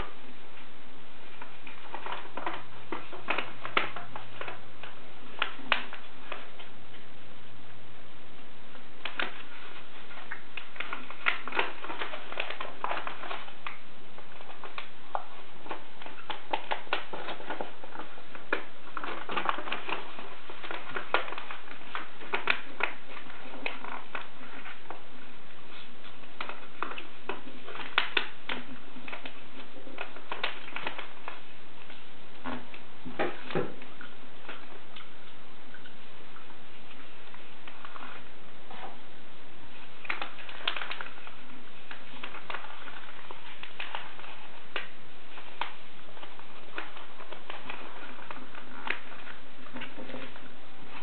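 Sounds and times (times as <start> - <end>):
paper crinkling and rustling: 1.3 - 7.1, 8.8 - 39.0, 39.7 - 51.0
sharp paper crackles: 1.4 - 7.1, 8.8 - 39.0, 39.7 - 51.0.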